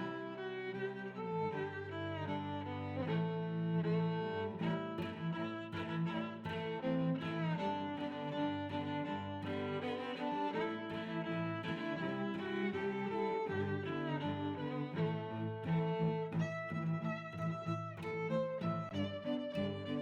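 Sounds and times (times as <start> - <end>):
bowed strings sustained notes: 0.0 - 20.0.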